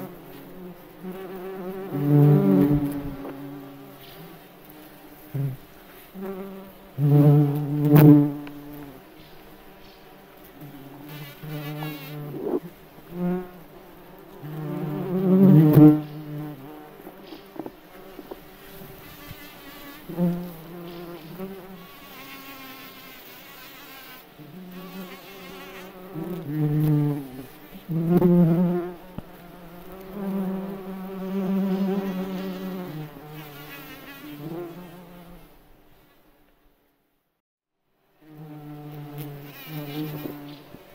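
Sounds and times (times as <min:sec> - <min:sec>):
bumblebees buzzing: 0:00.0 - 0:35.4, 0:38.2 - 0:40.9.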